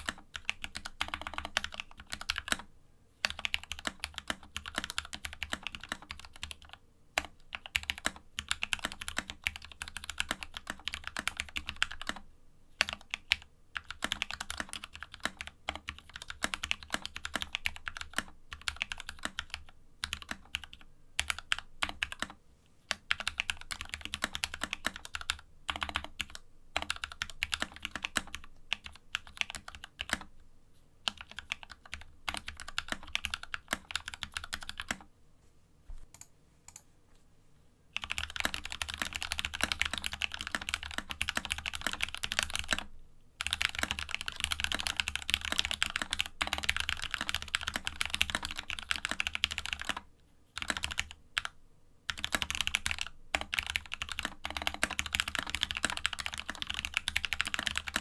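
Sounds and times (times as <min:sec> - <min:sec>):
fast typing on mechanical keyboard: 0:00.0 - 0:12.2, 0:12.8 - 0:30.3, 0:31.1 - 0:35.1, 0:38.0 - 0:58.0.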